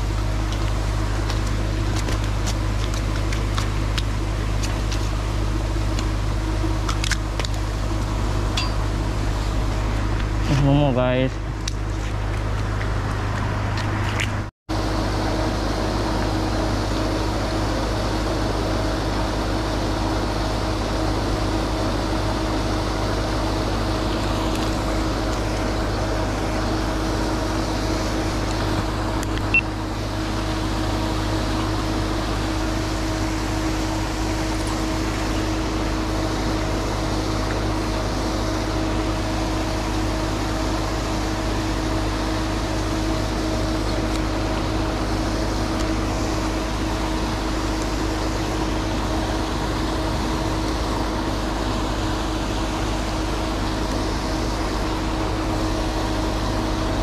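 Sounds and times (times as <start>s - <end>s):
aerator motor hum: 0.0s - 57.0s.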